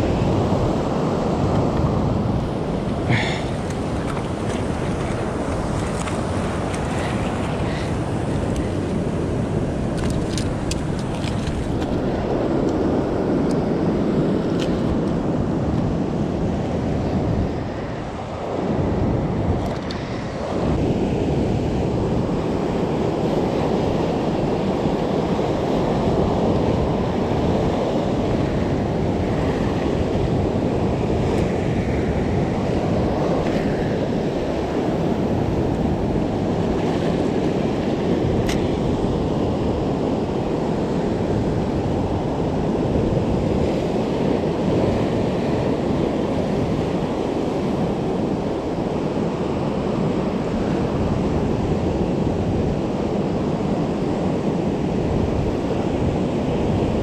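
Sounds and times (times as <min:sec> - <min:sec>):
surf washing over rocks: 0:00.0 - 0:57.0
wind buffeting microphone: 0:00.0 - 0:57.0.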